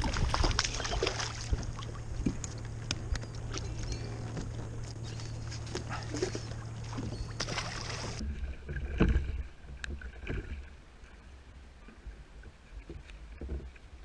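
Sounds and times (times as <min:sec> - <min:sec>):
choppy water: 0:00.0 - 0:14.0
wind: 0:00.0 - 0:14.0.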